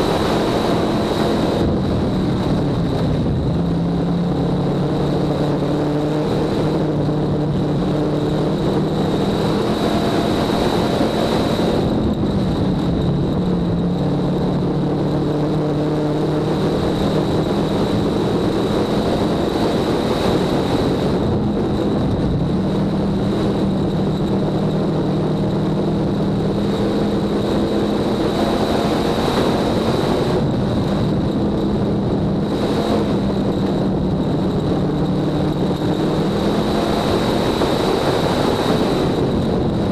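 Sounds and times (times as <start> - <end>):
high-pitched whine: 0.0 - 39.9
race car engine running hard: 0.0 - 39.9.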